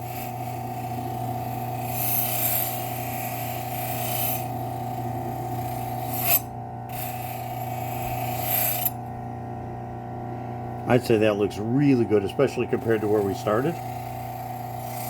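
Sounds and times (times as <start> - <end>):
blade rasping on buffing wheel: 0.0 - 9.1, 10.8 - 15.0
grinder motor hum: 0.0 - 15.0.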